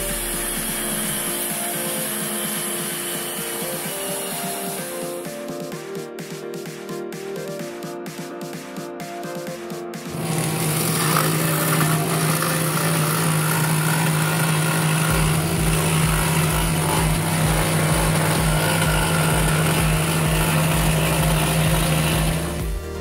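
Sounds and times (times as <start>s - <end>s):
scroll saw cutting wood: 0.0s - 5.7s, 10.1s - 23.0s.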